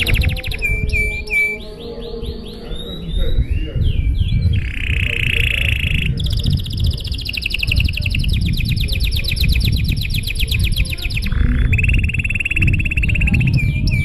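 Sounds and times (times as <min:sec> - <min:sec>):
canary singing trills: 0:00.0 - 0:14.0
low rumble: 0:00.0 - 0:14.0.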